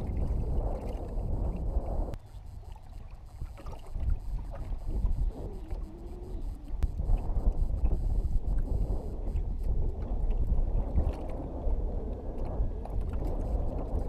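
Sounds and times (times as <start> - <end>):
water lapping against boat hull: 0.0 - 14.0
wind noise on microphone: 0.0 - 14.0.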